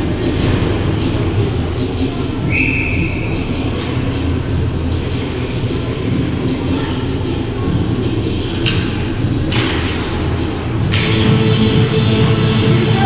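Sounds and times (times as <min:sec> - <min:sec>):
ice rink ambience rumble: 0:00.0 - 0:13.0.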